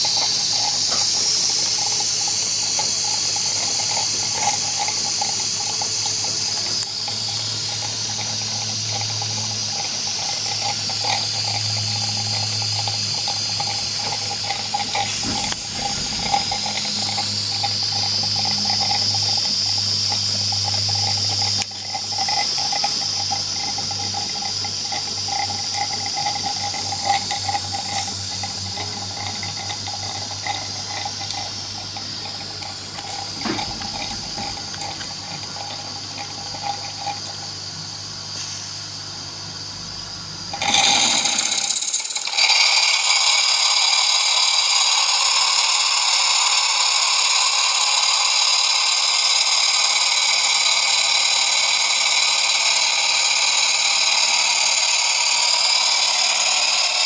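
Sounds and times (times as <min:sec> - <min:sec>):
steam engine hissing: 0:00.0 - 0:39.2, 0:40.5 - 0:57.0.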